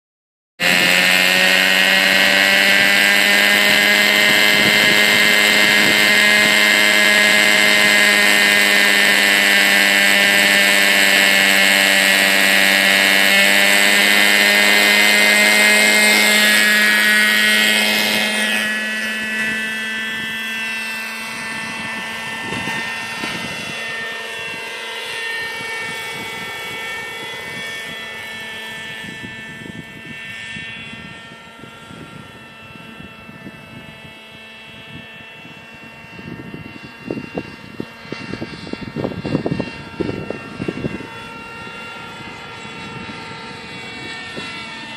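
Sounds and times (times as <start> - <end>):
radio-controlled helicopter whine: 0.6 - 44.9.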